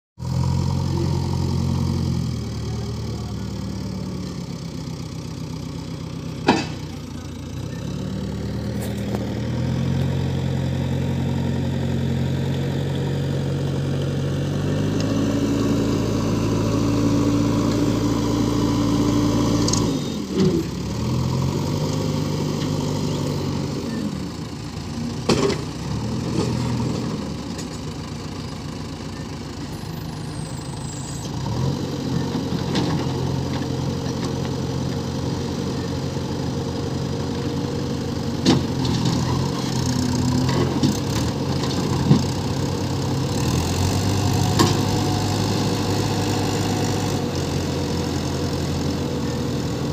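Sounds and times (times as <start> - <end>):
diesel engines revving: 0.2 - 49.9.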